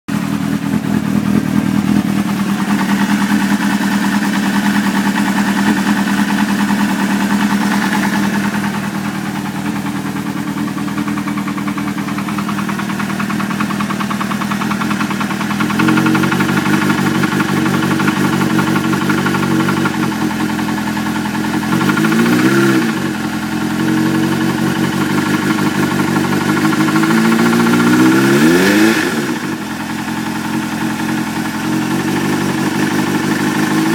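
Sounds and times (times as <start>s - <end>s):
engine knocking: 0.1s - 33.9s
motorcycle engine idling and revving: 0.1s - 33.9s.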